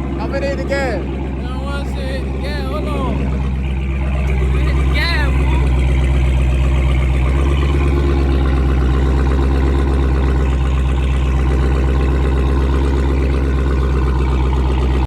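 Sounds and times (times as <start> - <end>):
loud car engine idling: 0.0 - 15.0.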